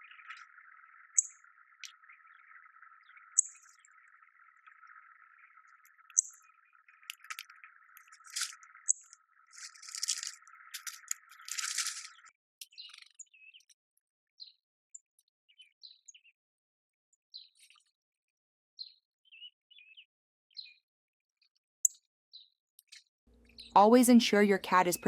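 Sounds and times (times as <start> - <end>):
small birds chirping: 0.0 - 13.8, 14.4 - 16.4, 17.3 - 18.0, 18.8 - 25.0.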